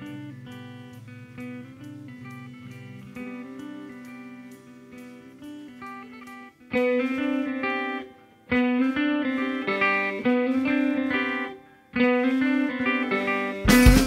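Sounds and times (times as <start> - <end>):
picked guitar chords: 0.0 - 14.0.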